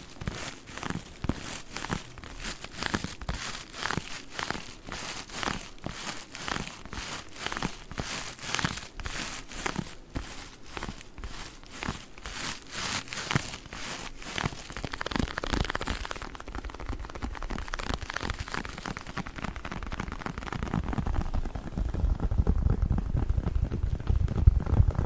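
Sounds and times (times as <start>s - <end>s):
plastic wrapper crinkling: 0.0s - 20.9s.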